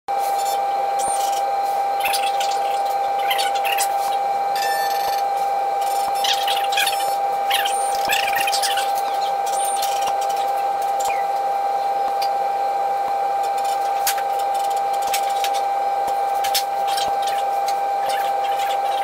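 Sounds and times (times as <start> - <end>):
motor hum with high whine: 0.1 - 19.0.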